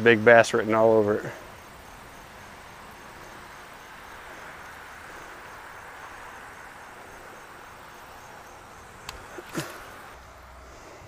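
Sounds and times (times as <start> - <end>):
crickets chirping: 0.0 - 11.0
outdoor background hiss: 0.0 - 11.0.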